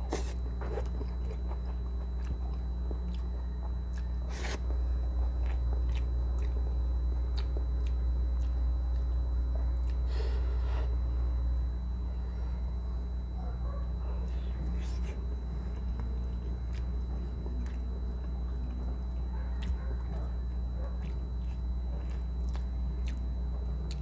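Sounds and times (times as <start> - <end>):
close-up chewing: 0.0 - 10.1, 13.8 - 24.0
steady low hum: 0.0 - 24.0.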